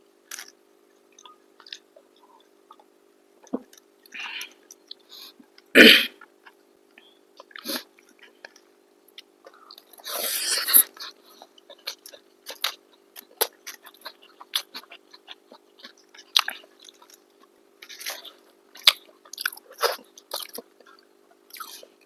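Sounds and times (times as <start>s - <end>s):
chewing food close-up: 0.3s - 3.0s, 3.6s - 22.0s.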